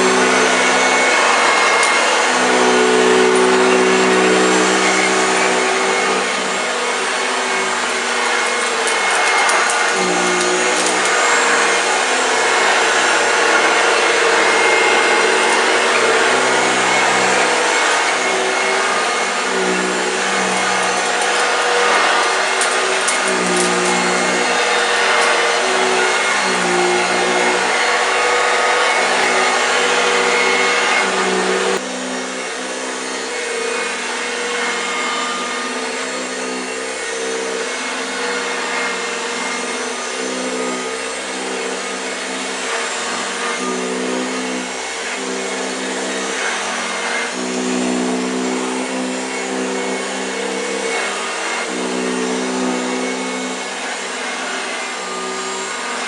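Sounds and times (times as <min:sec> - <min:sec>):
vacuum cleaner motor humming: 0:00.0 - 0:56.0.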